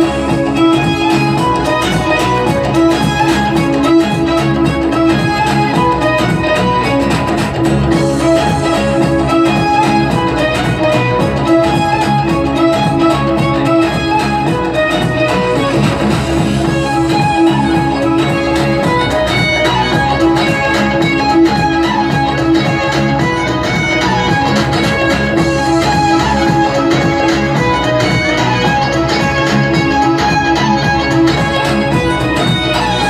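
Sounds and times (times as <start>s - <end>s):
guitar and string accompaniment: 0.0s - 33.0s
violin melody: 0.0s - 33.0s.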